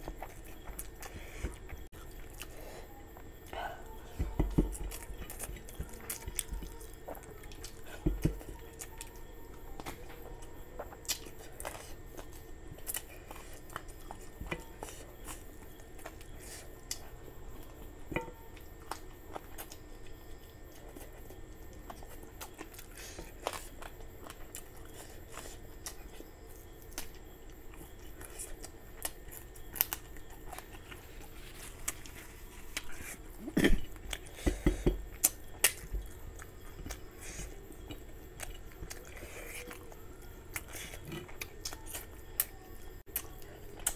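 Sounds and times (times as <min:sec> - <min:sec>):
chewing and mouth sounds: 0:00.0 - 0:43.9.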